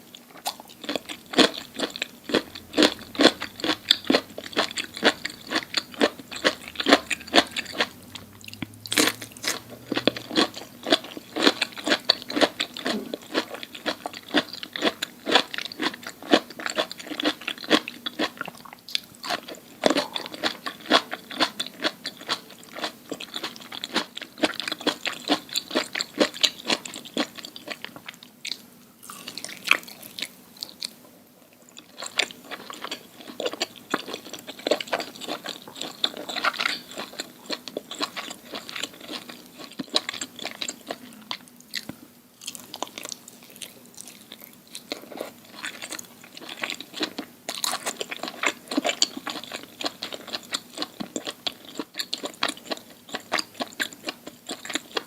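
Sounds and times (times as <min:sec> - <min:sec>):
crunchy chewing and biting: 0:00.1 - 0:31.0, 0:31.7 - 0:55.0.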